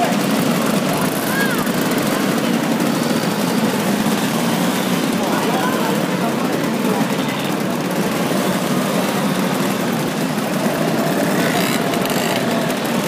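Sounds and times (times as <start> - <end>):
scooter engines buzzing past: 0.0 - 13.0.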